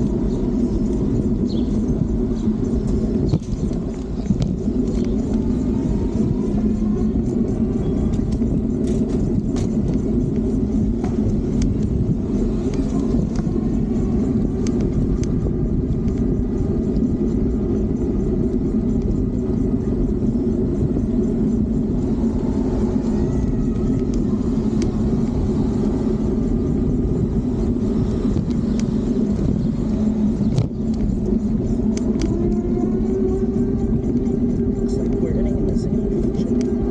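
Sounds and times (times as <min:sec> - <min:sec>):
road noise: 0:00.0 - 0:36.9
wind rumble on microphone: 0:00.0 - 0:36.9.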